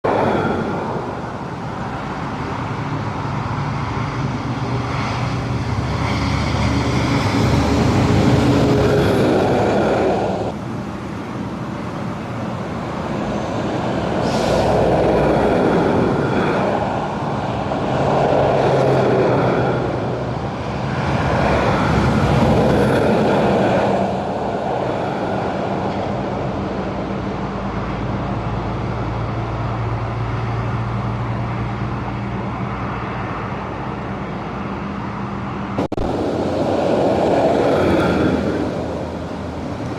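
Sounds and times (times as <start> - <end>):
heavy trucks passing: 0.0 - 39.9.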